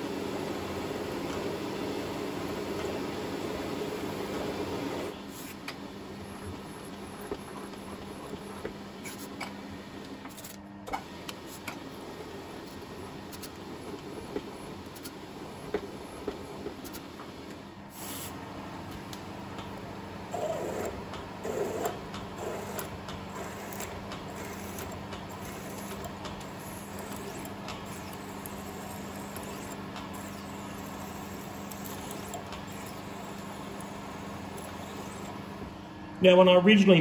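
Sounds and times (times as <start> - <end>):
milling machine spindle humming: 0.0 - 36.6.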